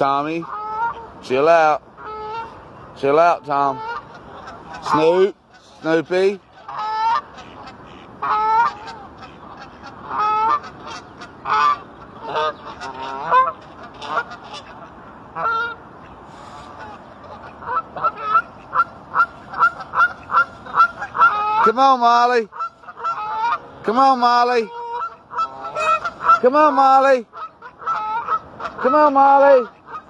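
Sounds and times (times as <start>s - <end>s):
geese honking: 0.0s - 30.0s.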